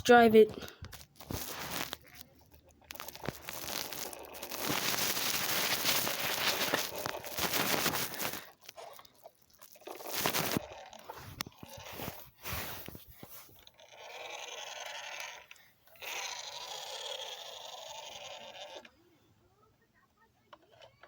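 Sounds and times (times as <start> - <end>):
toy truck electric motor buzzing: 1.3 - 9.0, 9.7 - 19.0.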